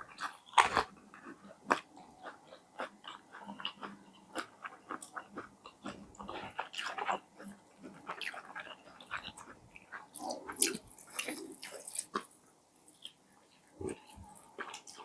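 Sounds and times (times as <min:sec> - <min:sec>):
wet chewing clicks and smacks: 0:00.1 - 0:13.2
crispy coating crackling: 0:02.3 - 0:15.0.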